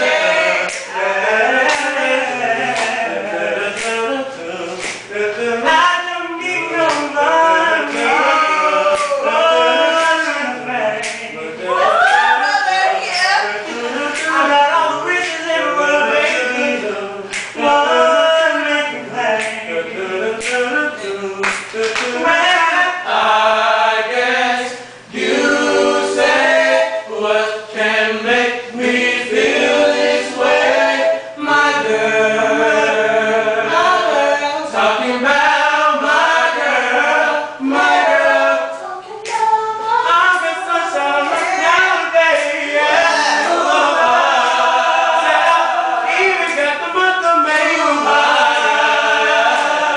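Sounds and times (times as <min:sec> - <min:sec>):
group singing a cappella: 0:00.0 - 0:49.9.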